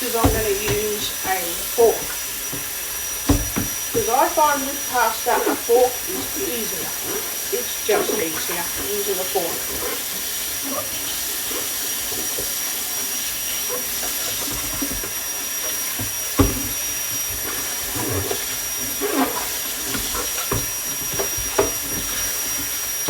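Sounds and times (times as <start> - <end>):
rushing water hiss: 0.0 - 23.0.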